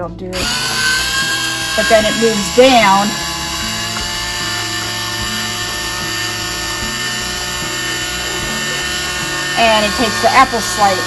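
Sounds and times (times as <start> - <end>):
small motor whirring: 0.4 - 11.0.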